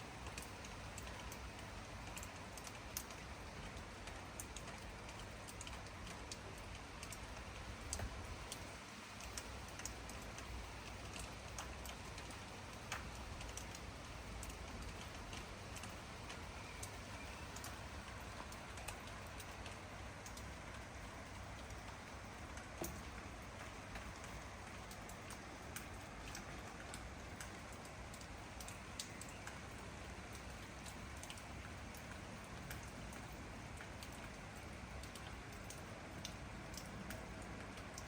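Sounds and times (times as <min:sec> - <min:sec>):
rain falling: 0:00.0 - 0:38.0
raindrops ticking on surfaces: 0:00.0 - 0:38.0.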